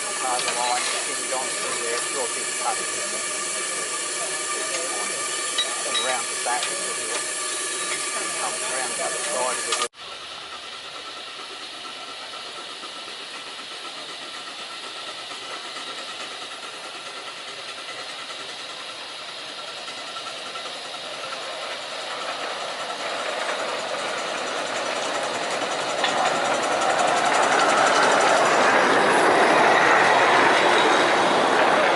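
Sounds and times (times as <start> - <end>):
miniature train running: 0.0 - 31.9.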